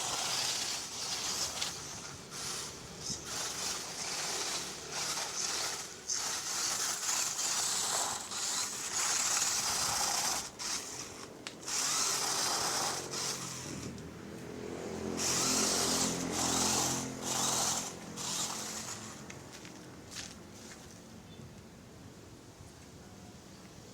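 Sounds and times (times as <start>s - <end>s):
electric motor whirring: 0.0s - 19.6s.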